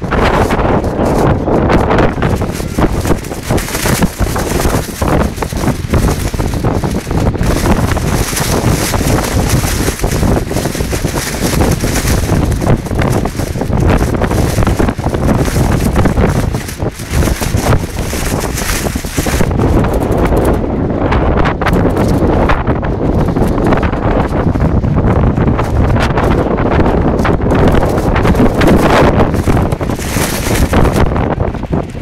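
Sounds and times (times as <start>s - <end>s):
plastic poncho flapping: 0.0s - 32.0s
wind blasting microphone: 0.0s - 32.0s.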